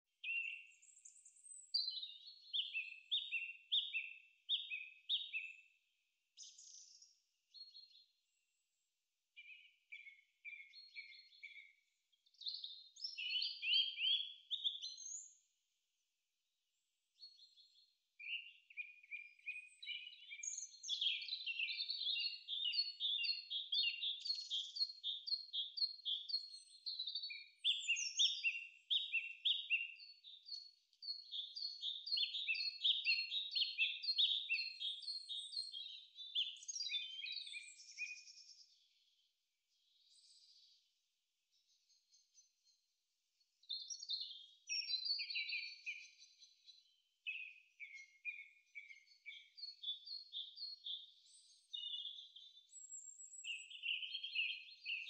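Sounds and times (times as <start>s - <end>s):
songbird singing: 0.0s - 15.6s, 16.7s - 55.0s.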